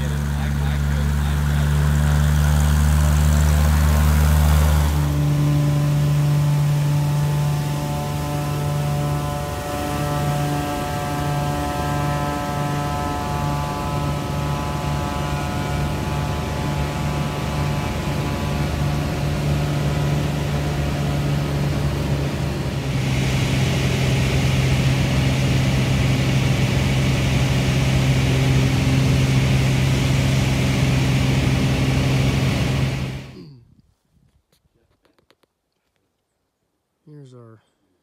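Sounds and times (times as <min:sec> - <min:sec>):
small plane engine drone: 0:00.0 - 0:33.5.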